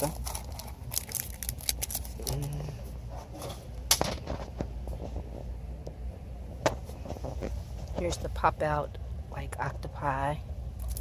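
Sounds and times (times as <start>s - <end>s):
low store hum: 0.0s - 11.0s.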